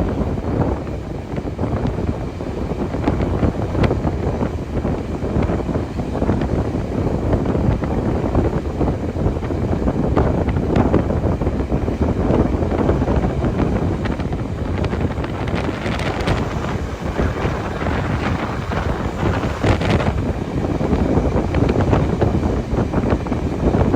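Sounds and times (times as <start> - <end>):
moving train rumble: 0.0 - 23.9
wind buffeting microphone: 0.0 - 23.9.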